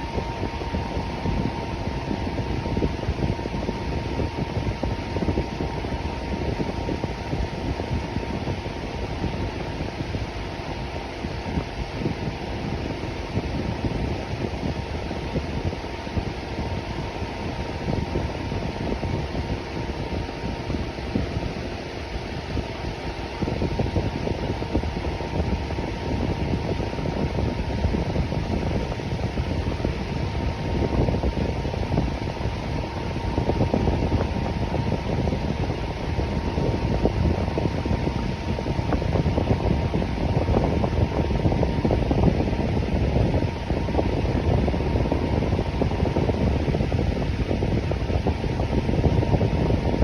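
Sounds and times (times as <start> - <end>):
electric fan running: 0.0 - 50.0.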